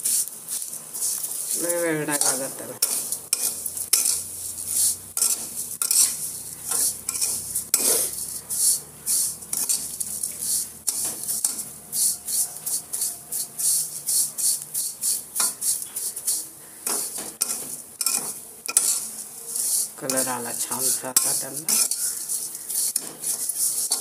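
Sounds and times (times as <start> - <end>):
dry strands rustling: 0.0 - 24.0
light sizzle: 0.0 - 24.0
metal spatula scraping a pan: 0.0 - 24.0.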